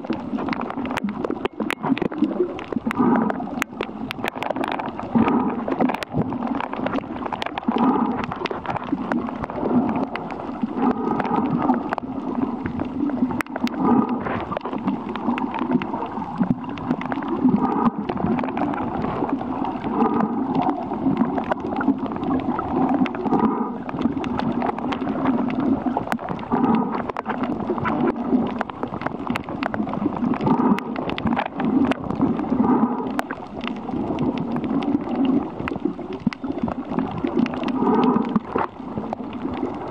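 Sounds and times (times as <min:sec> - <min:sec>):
muffled underwater surging: 0:00.0 - 0:39.9.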